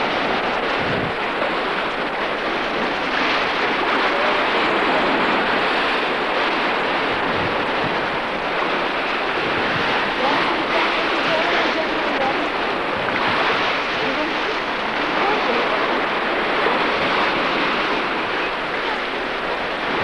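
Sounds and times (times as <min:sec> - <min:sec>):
surf breaking on a beach: 0:00.0 - 0:20.0
wind buffeting the microphone: 0:00.0 - 0:20.0.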